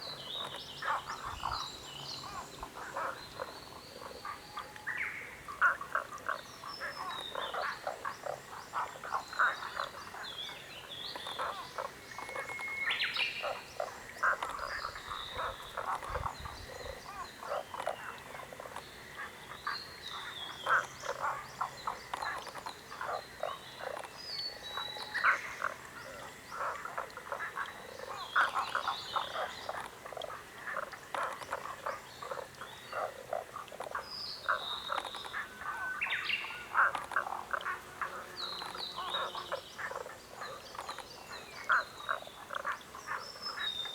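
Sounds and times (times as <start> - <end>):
frogs croaking: 0.0 - 43.9.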